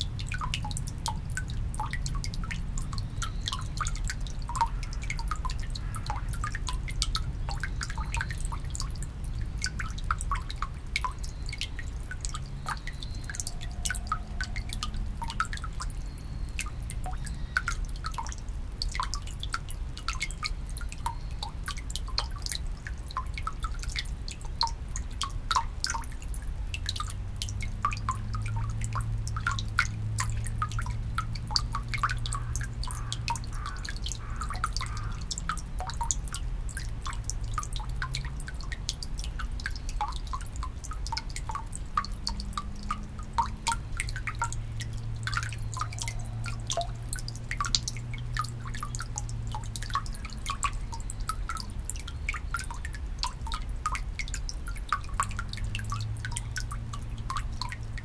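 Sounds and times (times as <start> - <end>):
low steady hum: 0.0 - 58.0
low steady rumble: 0.0 - 58.0
water dripping into stone basin: 0.0 - 58.0.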